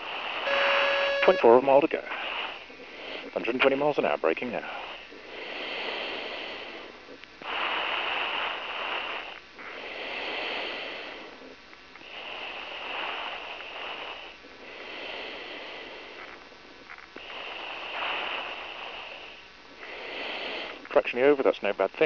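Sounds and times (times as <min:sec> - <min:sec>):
slow breathing: 0:00.0 - 0:21.0.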